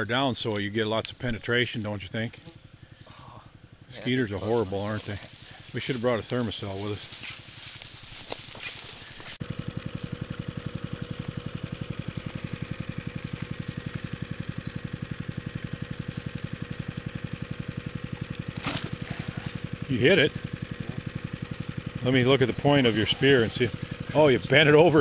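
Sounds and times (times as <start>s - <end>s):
faint outdoor background: 0.0s - 25.0s
small engine idling: 0.0s - 25.0s.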